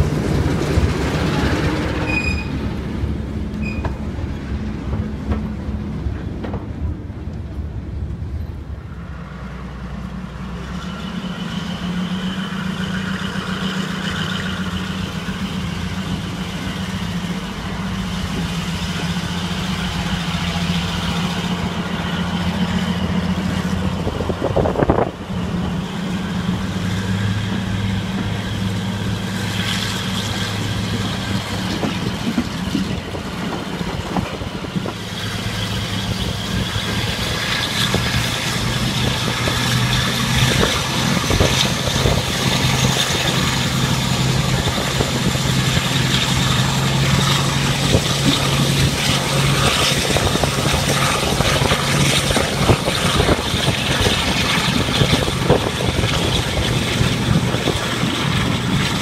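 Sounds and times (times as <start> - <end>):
diesel locomotive engine: 0.0 - 59.0
train roaring beneath a bridge: 0.0 - 59.0.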